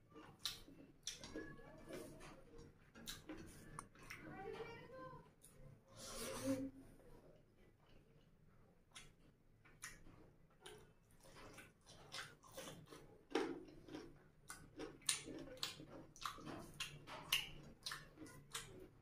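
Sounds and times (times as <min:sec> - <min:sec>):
chewing and lip-smacking: 0:00.0 - 0:04.3, 0:07.6 - 0:19.0.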